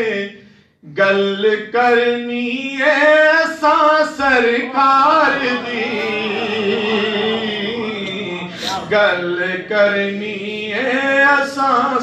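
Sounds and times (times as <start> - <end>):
man singing through microphone: 0.0 - 12.0.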